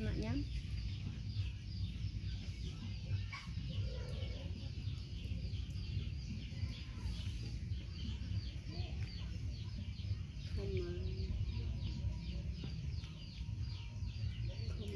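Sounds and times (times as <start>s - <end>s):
chickens clucking: 0.2s - 14.9s.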